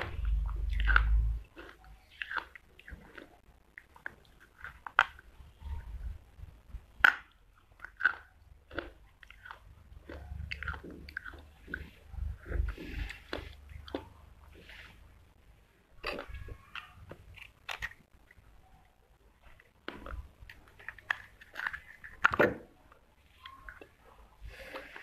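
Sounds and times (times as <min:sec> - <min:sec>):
clay being chewed: 0:00.0 - 0:15.0, 0:16.0 - 0:18.5, 0:19.4 - 0:25.0.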